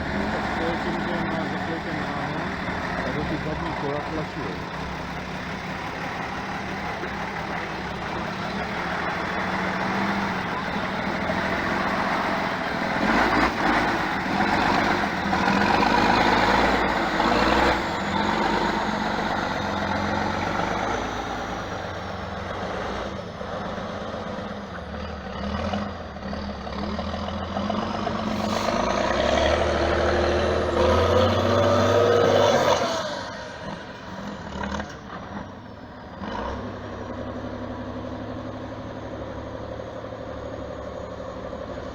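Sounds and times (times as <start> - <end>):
truck engine revving under load: 0.0 - 41.9.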